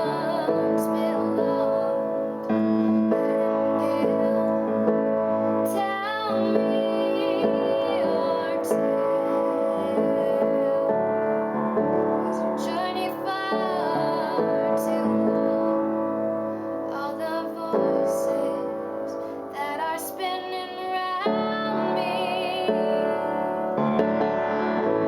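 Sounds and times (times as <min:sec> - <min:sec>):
woman singing a slow ballad: 0:00.0 - 0:23.8
piano accompaniment: 0:00.0 - 0:25.0.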